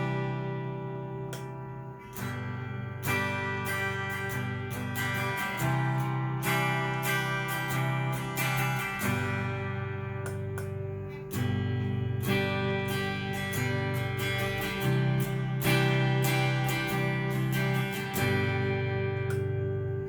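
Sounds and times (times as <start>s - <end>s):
electric guitar strumming chords: 0.0s - 20.0s.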